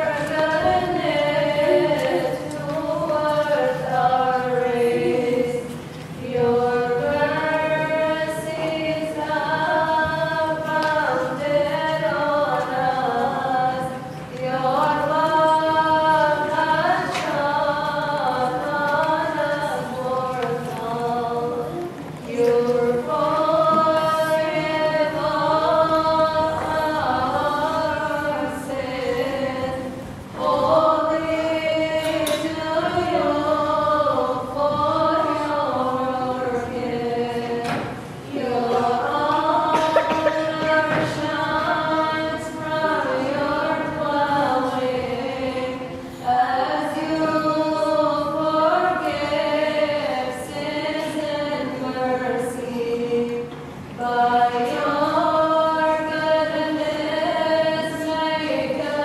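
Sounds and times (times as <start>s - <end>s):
voices singing a slow chant: 0.0s - 59.0s.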